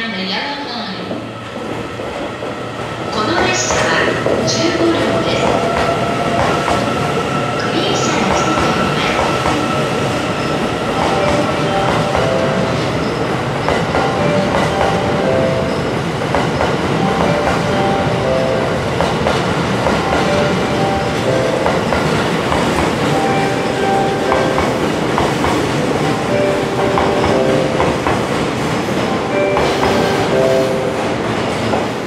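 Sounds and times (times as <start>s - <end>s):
train wheels rumbling on rails: 0.8s - 32.0s.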